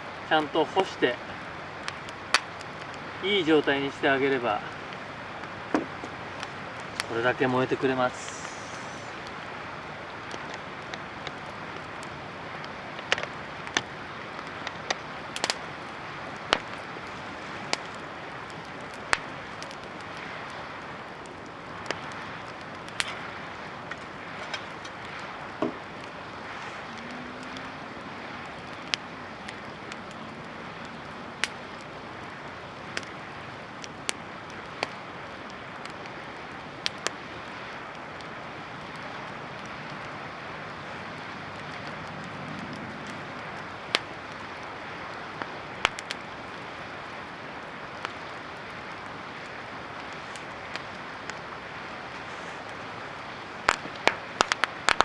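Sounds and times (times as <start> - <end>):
campfire crackling and popping: 0.0 - 55.0
fire rushing hiss: 0.0 - 55.0.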